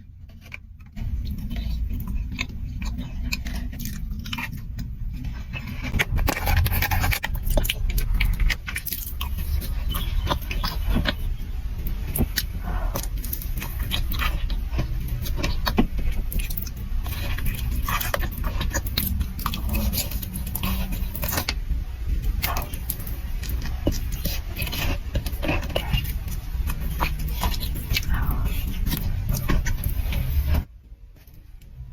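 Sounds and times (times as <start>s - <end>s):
chewing and crunching: 0.0s - 31.9s
steady low hum: 0.0s - 31.9s.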